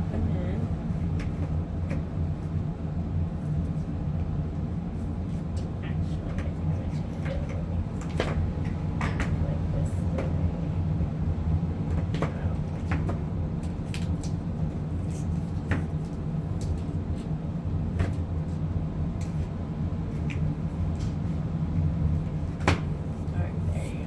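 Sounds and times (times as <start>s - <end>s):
furnace humming: 0.0s - 24.0s.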